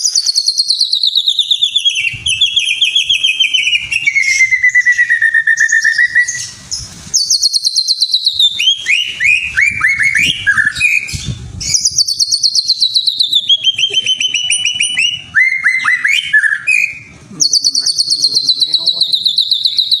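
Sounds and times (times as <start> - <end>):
songbird singing rapid trills: 0.0 - 20.0.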